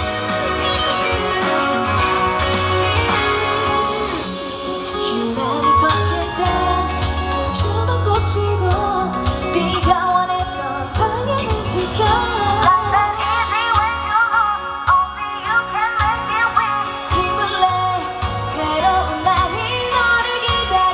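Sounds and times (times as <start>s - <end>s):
band playing upbeat song: 0.0s - 20.9s
woman singing: 0.0s - 20.9s.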